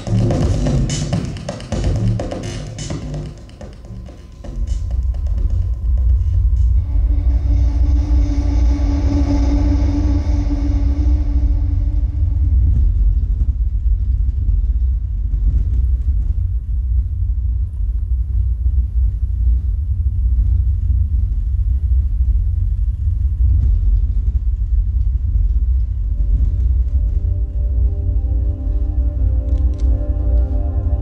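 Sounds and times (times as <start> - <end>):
deep bass rumble: 0.0 - 31.0.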